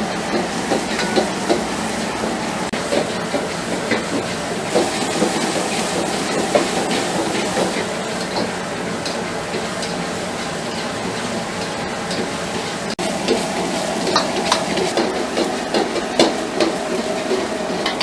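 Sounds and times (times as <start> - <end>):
cooking utensils clinking: 0.0 - 10.1, 12.9 - 18.0
steady kitchen hiss: 0.0 - 18.0.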